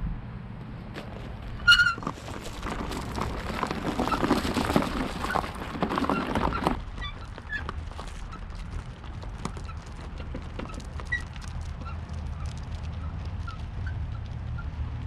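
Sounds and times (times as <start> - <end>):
noisy clatter: 0.0 - 15.0.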